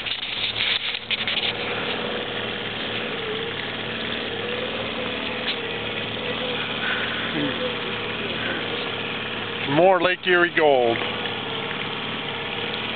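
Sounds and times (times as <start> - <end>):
boat motor running: 0.0 - 12.9.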